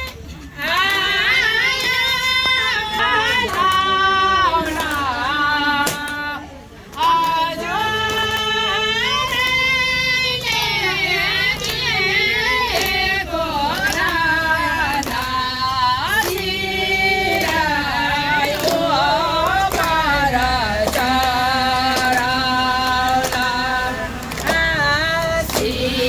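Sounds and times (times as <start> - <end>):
hand claps: 0.0 - 26.0
woman singing: 0.0 - 26.0.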